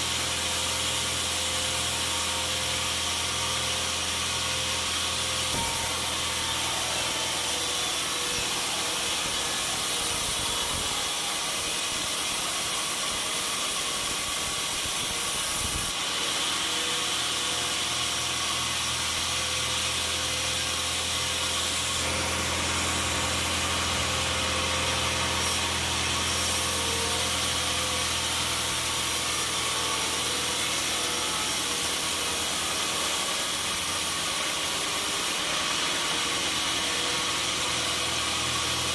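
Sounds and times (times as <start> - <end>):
saw cutting through wood: 0.0 - 38.9.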